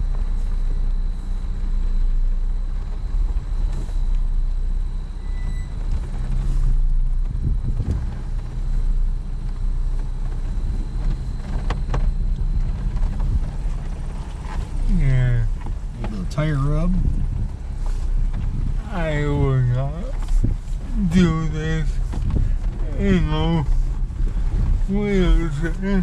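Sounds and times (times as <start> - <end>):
tire rubbing: 0.0 - 26.0
truck engine droning: 0.0 - 26.0.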